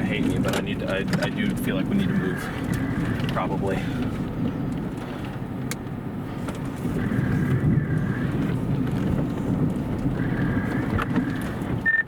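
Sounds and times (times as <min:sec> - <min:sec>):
wind noise: 0:00.0 - 0:05.3, 0:06.1 - 0:12.0
vehicle rumble: 0:00.0 - 0:12.0.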